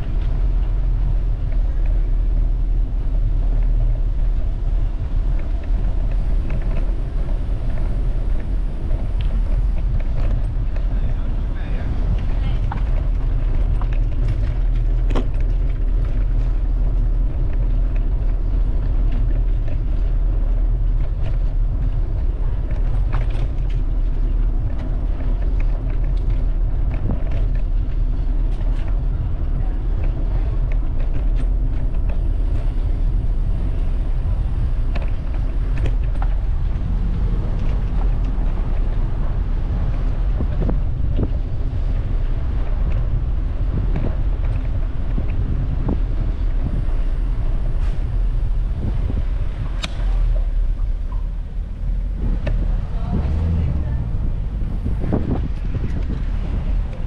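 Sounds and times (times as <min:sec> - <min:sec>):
wind and road noise rumble: 0:00.0 - 0:57.0.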